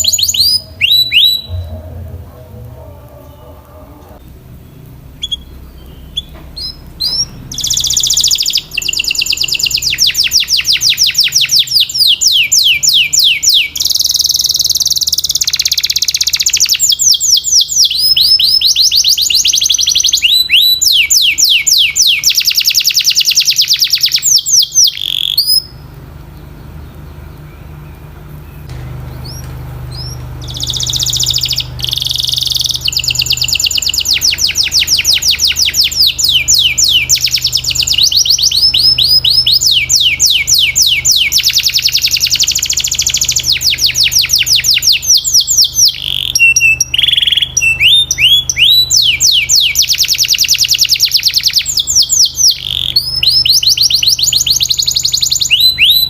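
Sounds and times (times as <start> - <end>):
canary singing in rapid trills: 0.0 - 56.0
faint low hum: 0.0 - 56.0.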